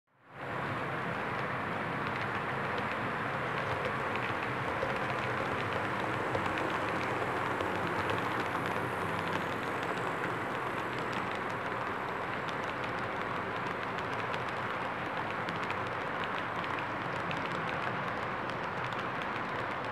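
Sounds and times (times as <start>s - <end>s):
model train whirring rumble: 0.4s - 17.0s
wheels clicking over rail joints: 1.3s - 19.9s.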